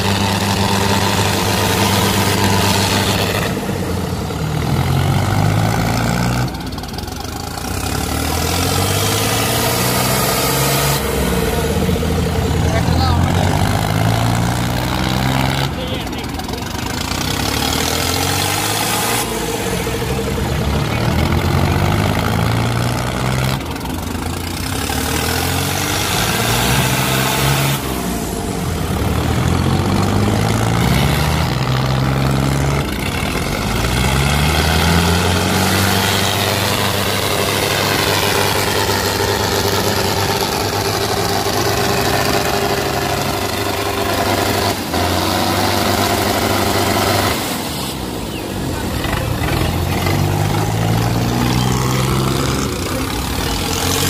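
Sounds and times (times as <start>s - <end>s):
tractor diesel engines revving: 0.0s - 54.0s.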